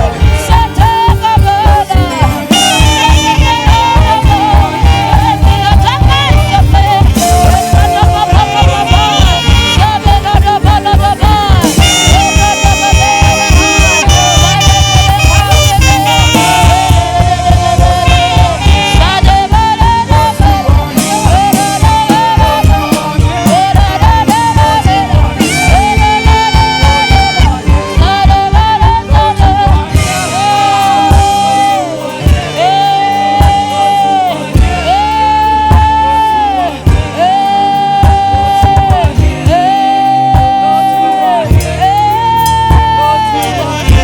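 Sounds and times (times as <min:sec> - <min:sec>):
live band music: 0:00.0 - 0:44.0
saxophone lead melody: 0:00.0 - 0:44.0.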